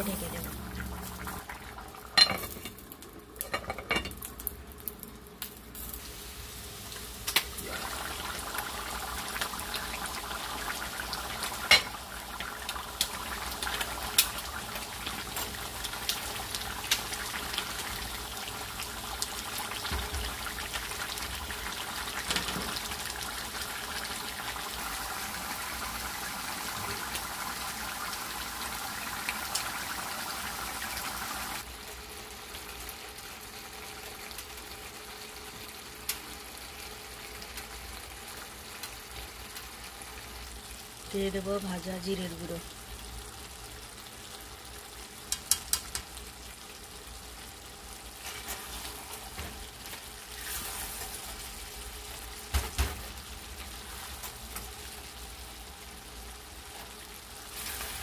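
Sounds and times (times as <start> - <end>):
pot boiling and bubbling: 0.0 - 58.0.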